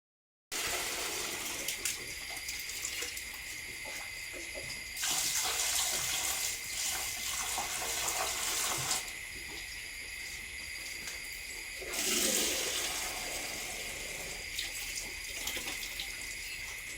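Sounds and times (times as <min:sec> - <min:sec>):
water spraying in a hiss: 0:00.6 - 0:16.9.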